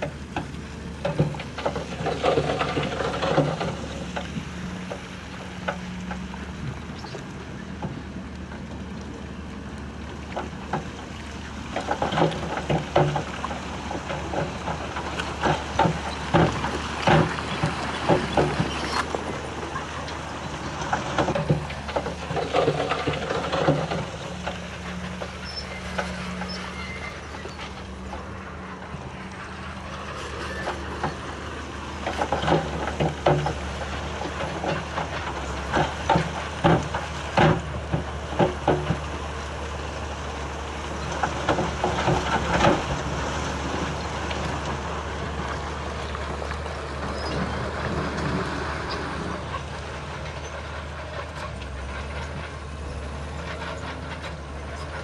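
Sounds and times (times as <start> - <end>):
metallic clanks and knocks: 0.0 - 8.8, 11.7 - 55.0
bulldozer diesel engine running: 0.0 - 55.0.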